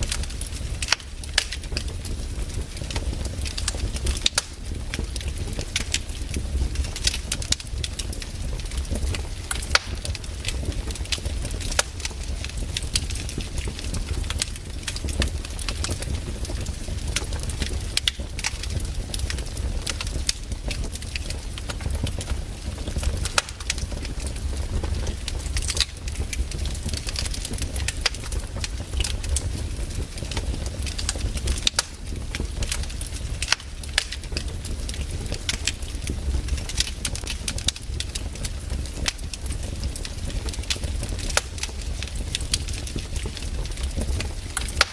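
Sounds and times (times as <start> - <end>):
low rumble of flames: 0.0 - 44.9
wood crackling and popping: 0.0 - 44.9.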